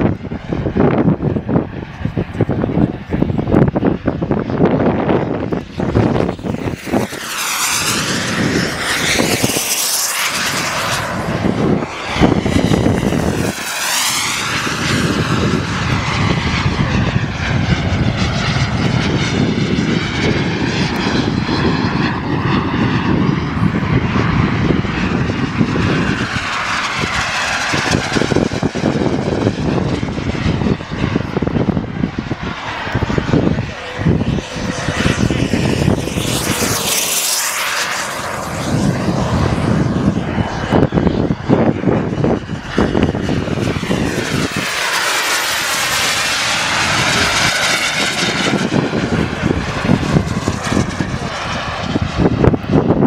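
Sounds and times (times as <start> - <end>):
model jet turbines whining: 0.0 - 53.0.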